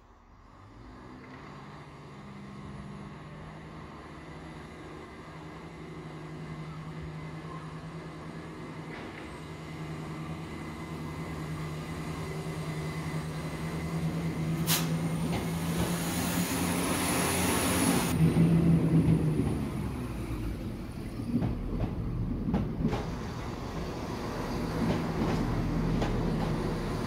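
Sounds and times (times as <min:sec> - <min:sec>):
diesel train engine hum: 0:00.0 - 0:27.0.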